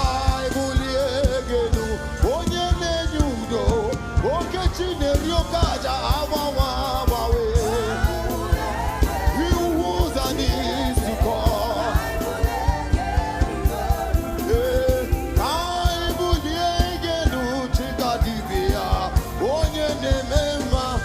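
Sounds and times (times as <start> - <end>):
gospel band playing: 0.0 - 21.0
lead voice singing: 0.0 - 21.0
steady drum beat: 0.0 - 21.0.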